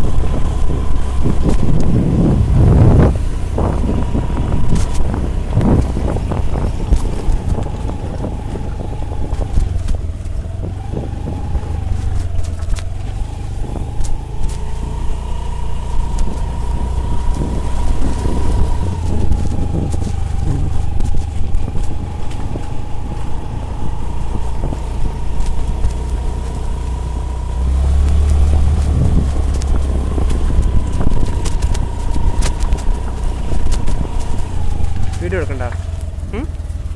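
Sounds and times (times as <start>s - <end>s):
scooter engine rumbling: 0.0s - 36.9s.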